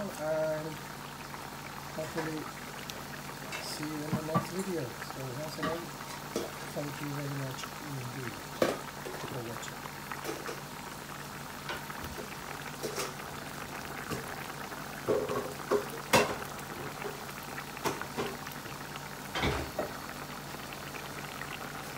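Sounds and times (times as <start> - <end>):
thick sauce bubbling and popping: 0.0 - 21.9.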